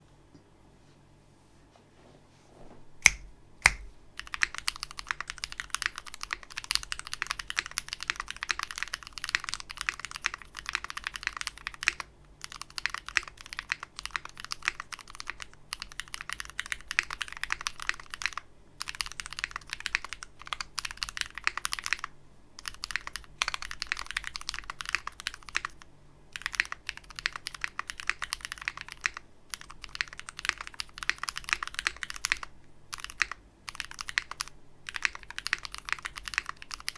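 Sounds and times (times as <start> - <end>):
loud clacky mechanical keyboard typing: 3.7 - 36.9.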